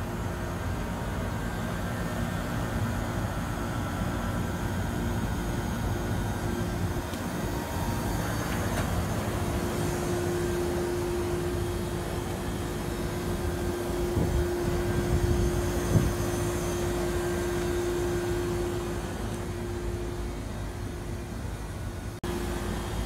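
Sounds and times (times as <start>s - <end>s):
air conditioner fan and compressor: 0.0s - 23.0s.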